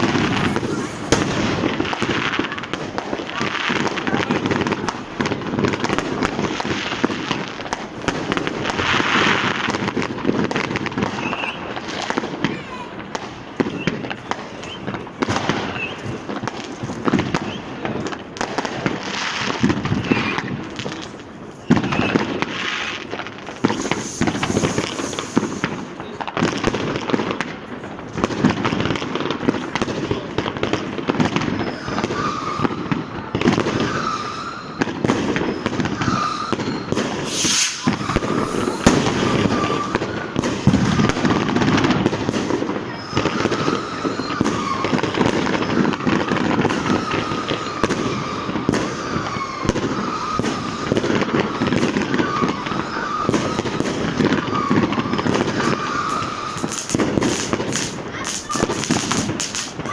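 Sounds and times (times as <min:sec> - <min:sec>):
firecracker bangs and crackling: 0:00.0 - 0:59.9.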